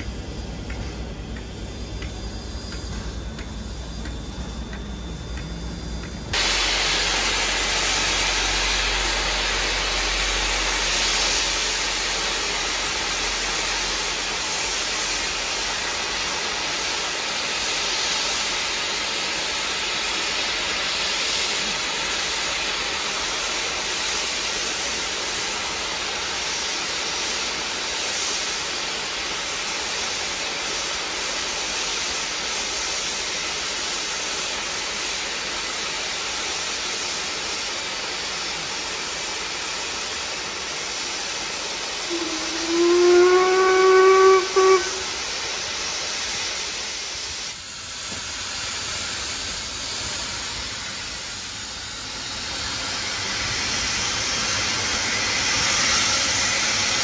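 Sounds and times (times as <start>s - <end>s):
steam locomotive hissing steam: 0.0s - 57.0s.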